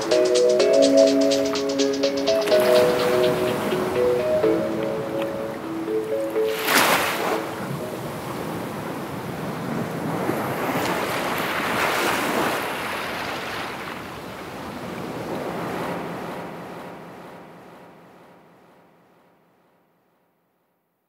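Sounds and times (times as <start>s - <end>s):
sea waves washing in: 0.0s - 18.8s.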